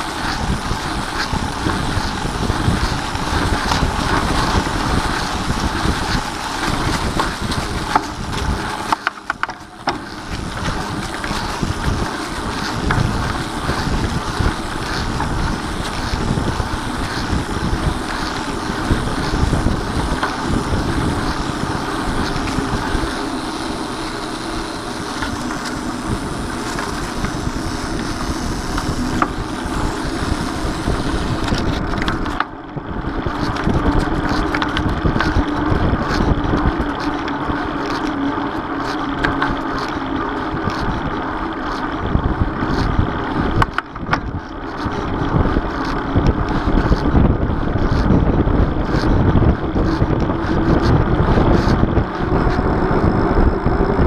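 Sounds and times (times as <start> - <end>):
bike tyres rolling over trail: 0.0 - 54.0
wind buffeting microphone: 0.0 - 54.0.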